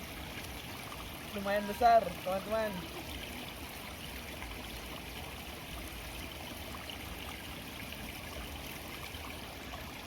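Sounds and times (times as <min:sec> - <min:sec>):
running water in a stream: 0:00.0 - 0:10.0.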